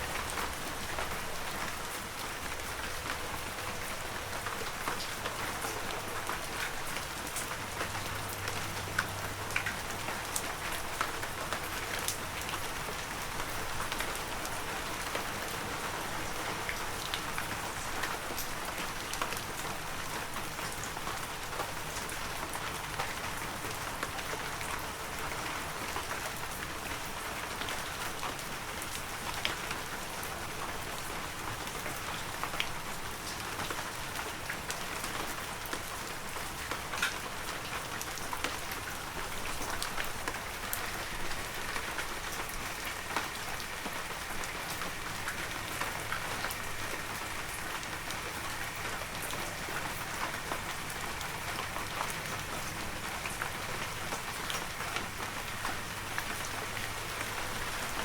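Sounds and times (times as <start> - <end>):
heavy rain in forest: 0.0 - 58.0
raindrops striking close by: 0.0 - 58.0.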